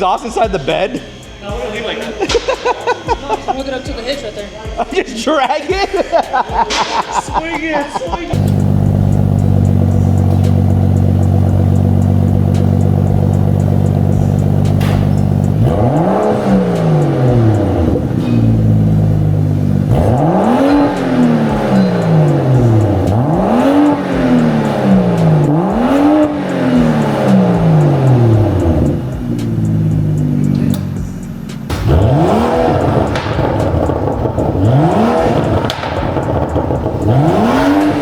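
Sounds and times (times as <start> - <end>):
car engine idling and revving: 0.0 - 5.2, 7.4 - 38.0.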